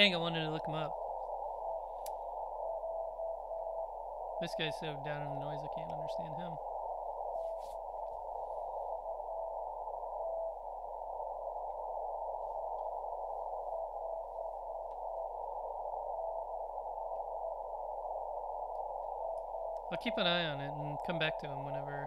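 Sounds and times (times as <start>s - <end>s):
radio hiss: 0.0s - 22.0s.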